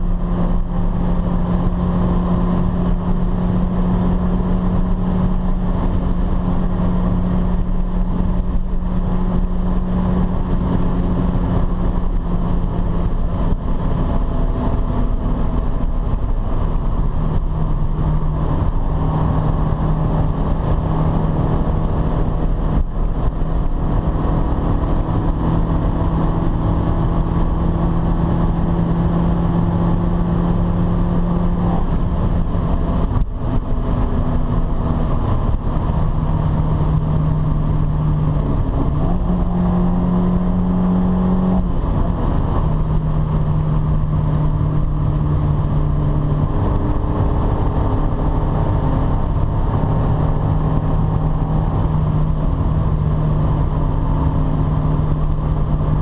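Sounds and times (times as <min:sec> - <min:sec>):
car engine droning at high revs: 0:00.0 - 0:56.0
wind noise: 0:00.0 - 0:56.0.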